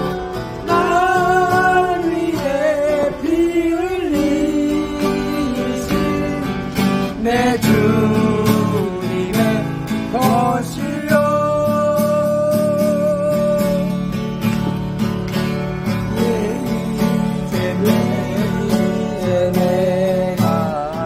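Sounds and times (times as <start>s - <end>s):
strummed acoustic guitar: 0.0s - 21.0s
man singing worship song: 0.6s - 14.1s, 16.0s - 21.0s.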